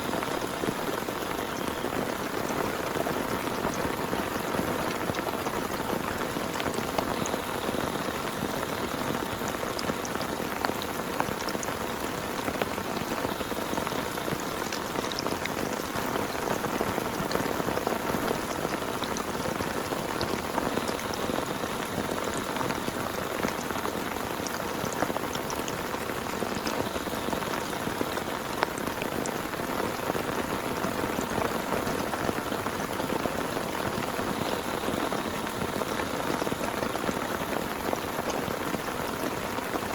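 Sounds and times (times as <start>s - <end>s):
heavy rain falling: 0.0s - 39.9s
raindrops ticking sharply: 0.0s - 39.9s.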